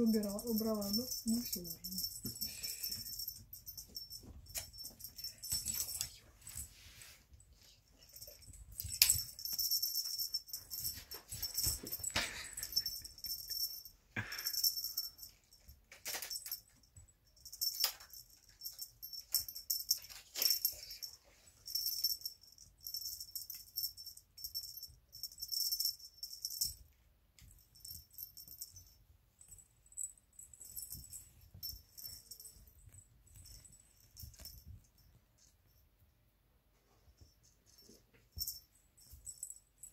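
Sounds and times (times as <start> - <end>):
small bell jingling: 0.0 - 36.1, 36.8 - 39.9.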